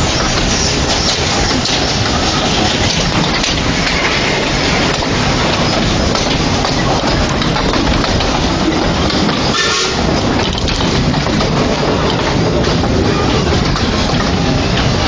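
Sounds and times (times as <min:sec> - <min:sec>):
steam locomotive rushing: 0:00.0 - 0:15.0.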